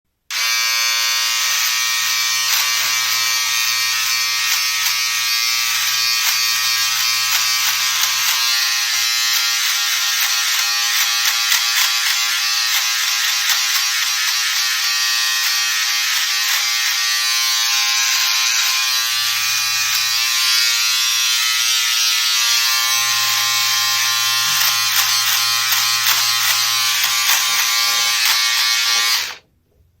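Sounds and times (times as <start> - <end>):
electric shaver buzzing: 0.3 - 29.4.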